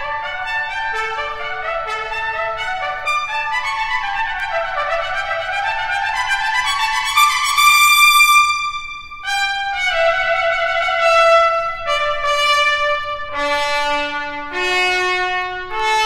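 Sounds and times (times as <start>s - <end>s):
trumpet playing long notes: 0.0s - 16.0s.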